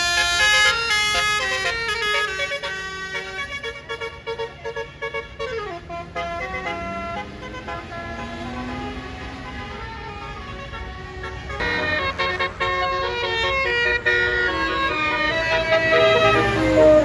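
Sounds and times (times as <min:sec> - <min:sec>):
multi-tone air horn melody: 0:00.0 - 0:17.0.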